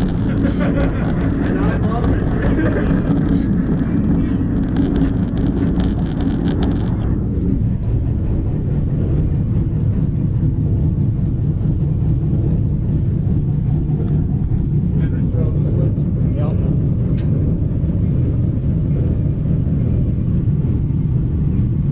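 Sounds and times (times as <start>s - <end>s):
diesel locomotive rumbling: 0.0s - 21.9s
rapid rattling: 0.0s - 21.9s.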